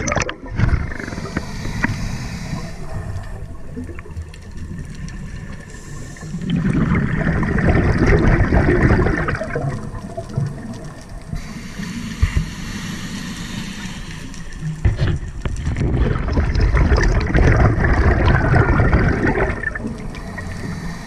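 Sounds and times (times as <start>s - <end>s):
regulator bubbles gurgling: 0.0s - 12.4s, 13.8s - 21.0s
underwater rumble: 0.0s - 21.0s.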